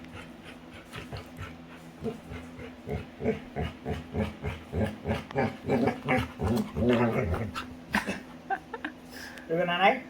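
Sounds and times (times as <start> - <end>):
dog grunting: 0.0 - 8.2.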